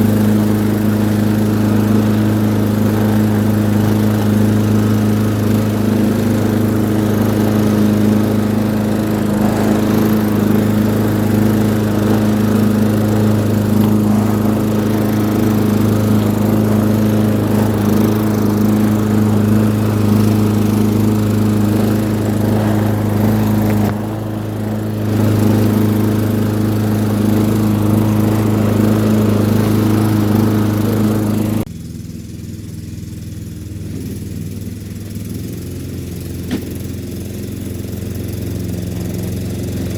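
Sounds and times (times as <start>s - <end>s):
lawn mower cutting grass: 0.0s - 39.9s.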